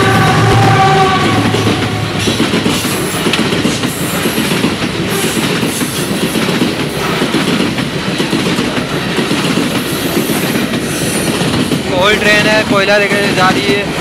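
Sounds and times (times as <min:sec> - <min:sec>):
freight wagons rumbling past: 0:00.0 - 0:14.0
steel wheels clattering over rail joints: 0:00.4 - 0:14.0.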